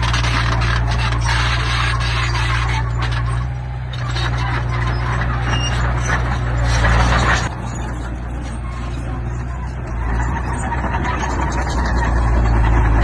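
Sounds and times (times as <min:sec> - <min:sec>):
diesel earthmoving machine running: 0:00.0 - 0:13.0
rattling and clattering: 0:00.0 - 0:13.0.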